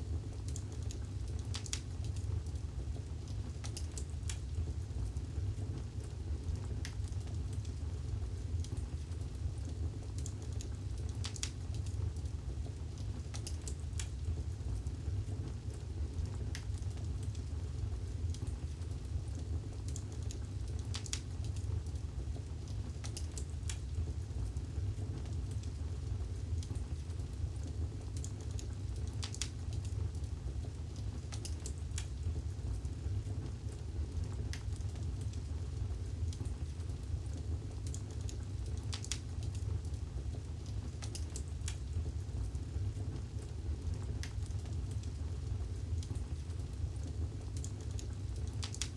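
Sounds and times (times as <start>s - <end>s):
fire crackling and popping: 0.0s - 48.9s
fire rumbling: 0.0s - 48.9s.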